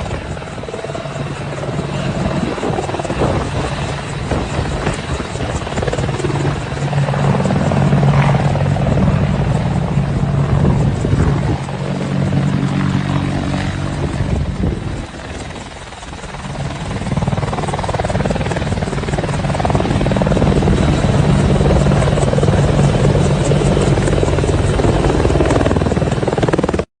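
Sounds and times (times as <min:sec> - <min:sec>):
helicopter rotor and turbine: 0:00.0 - 0:26.9.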